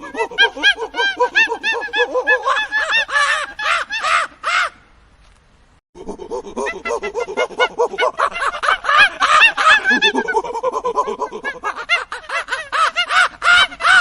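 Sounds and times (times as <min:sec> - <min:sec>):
animals squealing: 0:00.0 - 0:04.7, 0:06.0 - 0:14.0.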